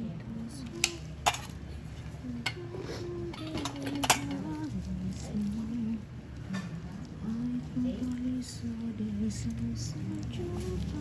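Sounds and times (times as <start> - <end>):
soft background music: 2.2 - 11.0.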